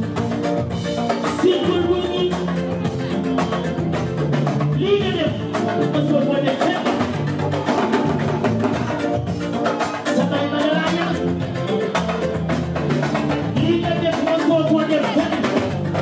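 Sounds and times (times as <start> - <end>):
bass notes: 0.0 - 16.0
fast dense drum beat: 0.0 - 16.0.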